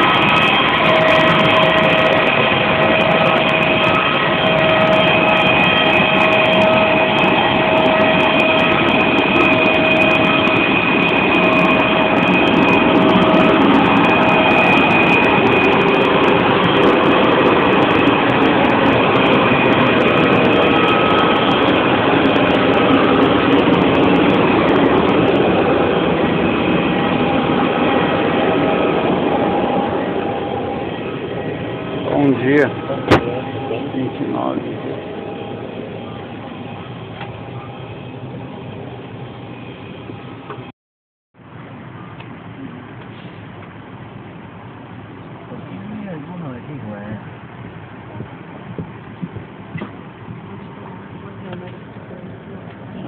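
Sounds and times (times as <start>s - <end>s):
high engine whine: 0.0s - 40.7s, 41.4s - 53.0s
jet engine cabin noise: 0.0s - 40.7s, 41.4s - 53.0s.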